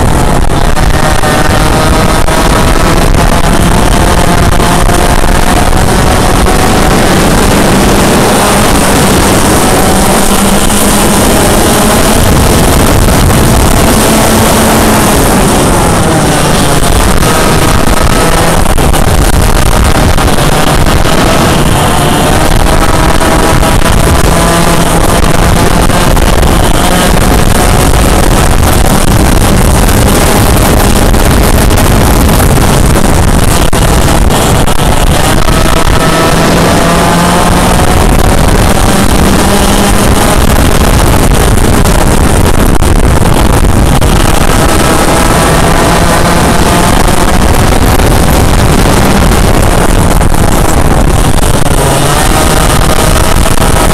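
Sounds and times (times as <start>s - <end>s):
kart engine revving: 0.0s - 53.9s
wind noise on microphone: 0.0s - 53.9s.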